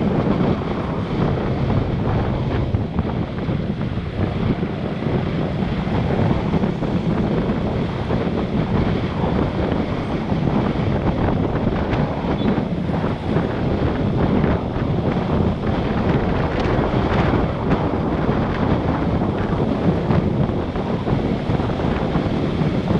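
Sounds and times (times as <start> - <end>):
motorbike engine running: 0.0 - 22.9
road traffic: 0.0 - 22.9
wind buffeting microphone: 0.0 - 22.9.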